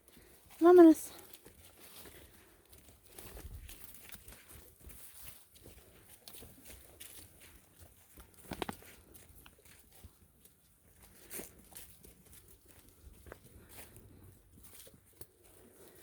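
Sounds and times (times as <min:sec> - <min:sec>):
footsteps crunching on dry trail: 0:00.0 - 0:16.0.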